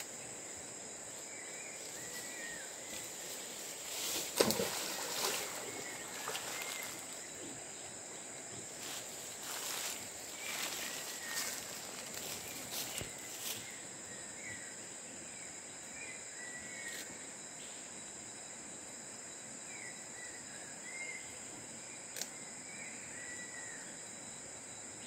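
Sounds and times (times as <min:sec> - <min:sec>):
forest insects droning: 0:00.0 - 0:25.0.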